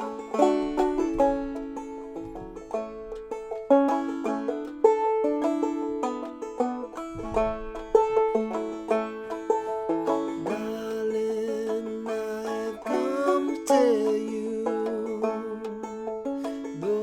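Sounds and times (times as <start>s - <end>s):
banjo playing clawhammer style: 0.0s - 17.0s.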